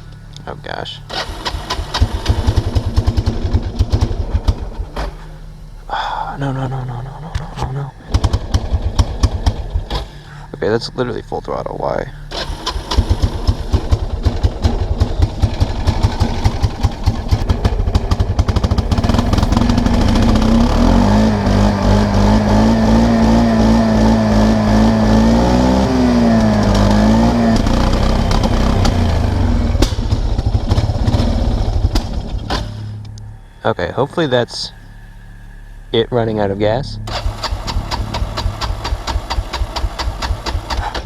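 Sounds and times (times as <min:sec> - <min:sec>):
atv engine running rough: 0:00.0 - 0:41.0.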